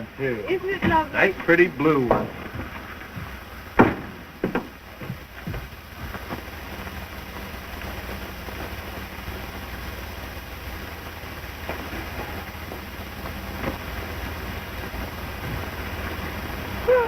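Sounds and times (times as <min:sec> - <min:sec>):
film soundtrack hiss and crackle: 0:00.0 - 0:17.0.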